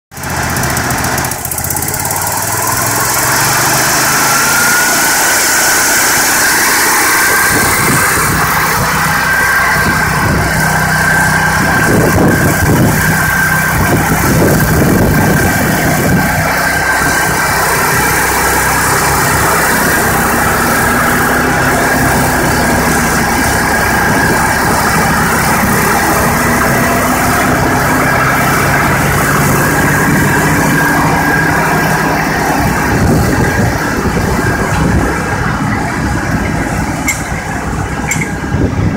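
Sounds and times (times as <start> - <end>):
leaf blower running: 0.1 - 38.9.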